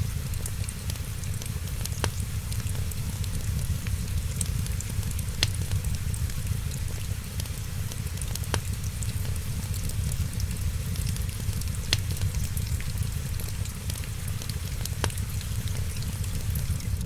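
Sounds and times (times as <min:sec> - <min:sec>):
wood fire crackling: 0:00.0 - 0:17.0
steady low rumble: 0:01.6 - 0:17.0
sharp fire pops: 0:01.9 - 0:16.7.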